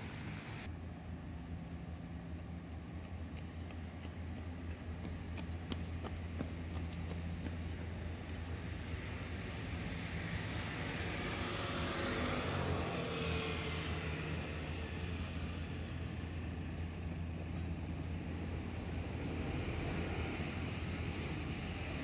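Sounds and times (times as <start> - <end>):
train running noise: 0.0 - 11.4, 13.6 - 22.0
electric train hum: 0.0 - 22.0.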